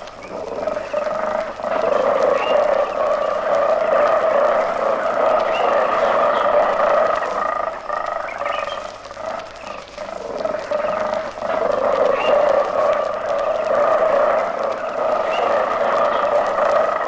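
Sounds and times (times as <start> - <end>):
chorus of animal calls: 0.0 - 17.0.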